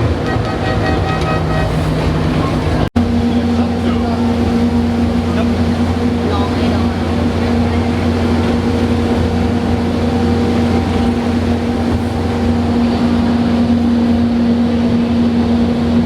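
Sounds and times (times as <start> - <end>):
train engine drone: 0.0 - 16.0.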